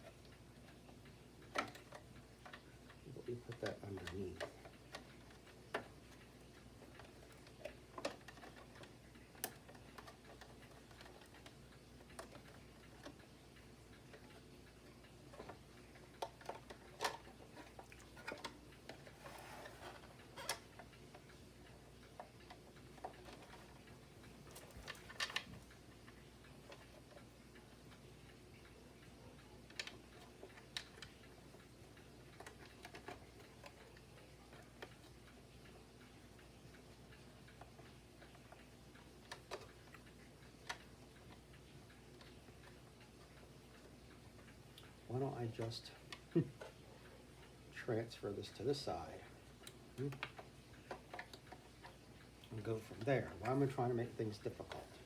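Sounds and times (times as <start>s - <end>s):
light clicks and taps of tools: 0.0s - 36.1s, 37.4s - 55.0s
faint steady hum: 0.0s - 55.0s.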